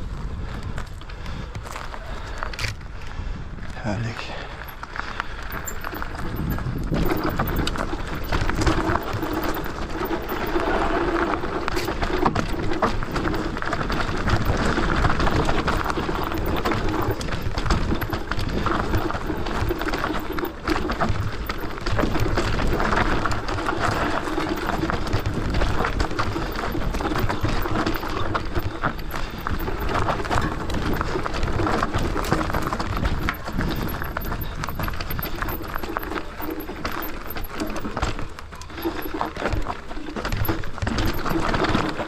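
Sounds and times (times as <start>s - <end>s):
bike knocking and rattling: 0.0s - 42.0s
bike tyres rolling over dirt: 0.0s - 42.0s.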